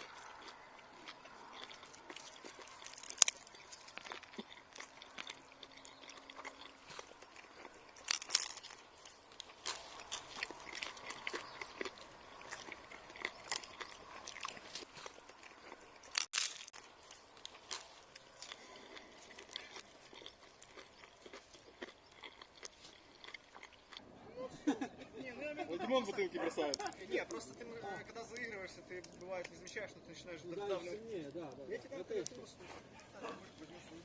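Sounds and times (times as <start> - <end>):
crunchy chewing: 0.0 - 24.1, 25.9 - 34.0.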